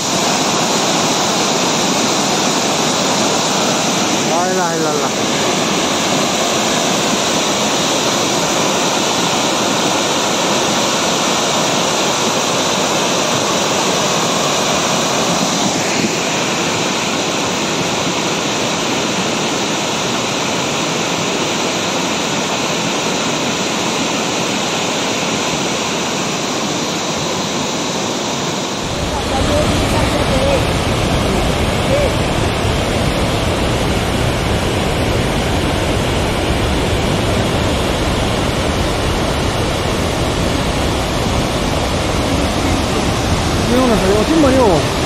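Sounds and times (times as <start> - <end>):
water rushing down stream: 0.0 - 45.0.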